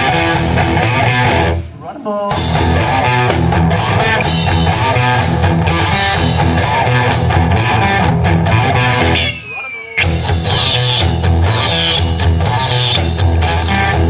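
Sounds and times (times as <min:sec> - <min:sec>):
bass guitar: 0:00.0 - 0:01.7, 0:02.3 - 0:09.4, 0:10.0 - 0:14.0
electric guitar: 0:00.0 - 0:01.7, 0:02.3 - 0:14.0
drum kit beat: 0:00.0 - 0:14.0.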